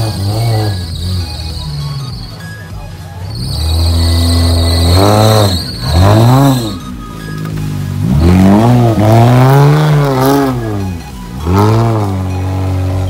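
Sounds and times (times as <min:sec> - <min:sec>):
engine revving hard: 0:00.0 - 0:02.6, 0:03.2 - 0:07.1, 0:07.9 - 0:13.0.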